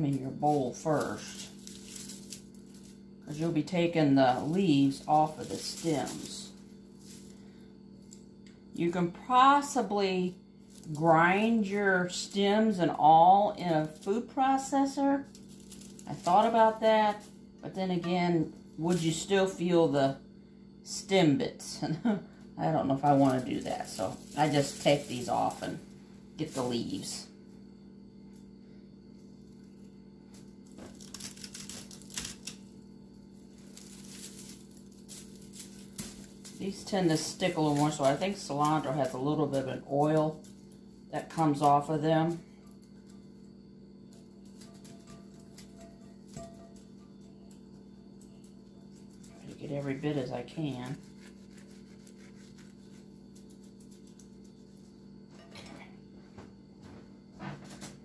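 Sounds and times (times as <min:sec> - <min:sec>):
dried herbs rustling and crackling: 0:00.0 - 0:20.2, 0:22.1 - 0:55.3
steady low hum: 0:00.0 - 0:58.0.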